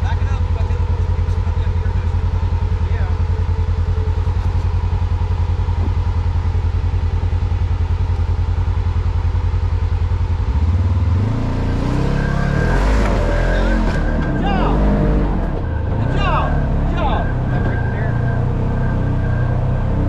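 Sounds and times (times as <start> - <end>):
utv engine idling and revving: 0.0 - 20.0.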